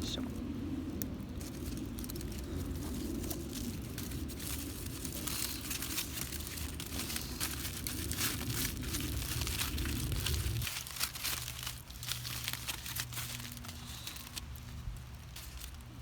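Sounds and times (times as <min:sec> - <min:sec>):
low rumble: 0:00.0 - 0:16.0
small sharp crackles: 0:00.9 - 0:16.0
crinkling and rustling: 0:01.0 - 0:16.0.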